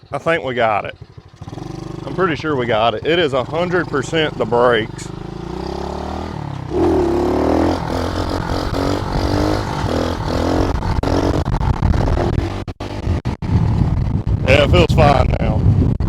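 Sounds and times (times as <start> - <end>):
motorbike engine revving: 0.0 - 14.9.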